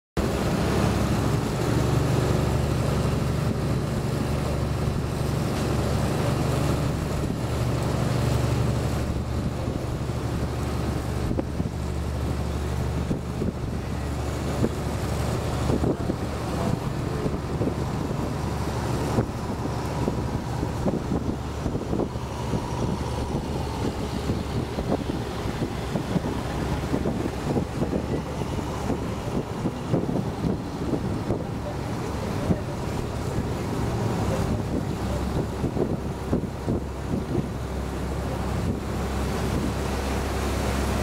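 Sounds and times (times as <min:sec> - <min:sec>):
boat engine running: 0:00.2 - 0:41.0
wind buffeting microphone: 0:00.2 - 0:41.0.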